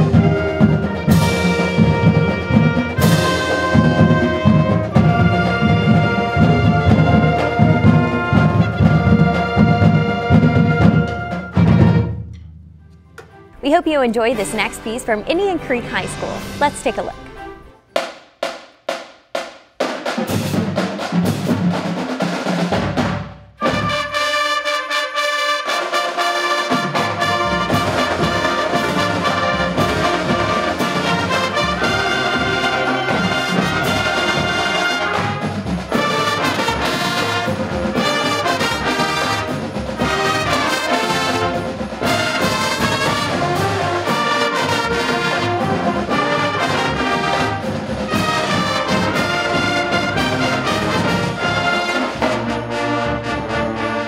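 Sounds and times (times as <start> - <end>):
school band with brass: 0.0 - 54.0.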